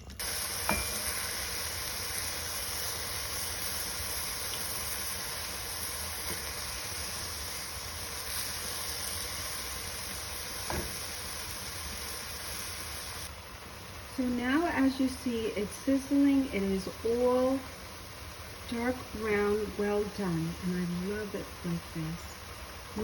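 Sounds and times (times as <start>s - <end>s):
meat sizzling in a frying pan: 0.2s - 23.0s.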